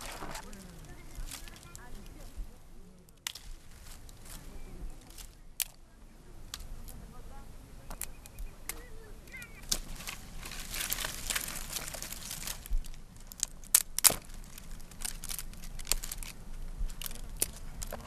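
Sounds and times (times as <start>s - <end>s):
dry wood snapping: 0.0s - 2.2s, 3.0s - 4.4s, 5.0s - 5.8s, 6.5s - 7.0s, 7.9s - 18.0s
brush and twigs rustling: 0.0s - 18.0s.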